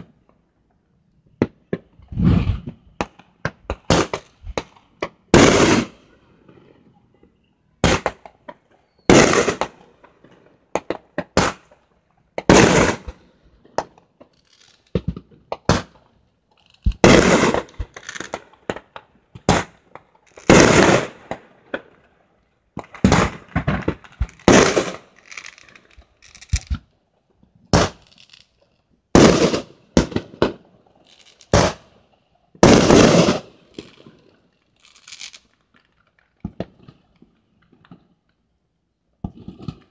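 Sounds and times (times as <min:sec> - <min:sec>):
fireworks bangs and crackling: 0:01.3 - 0:38.2, 0:39.2 - 0:39.9.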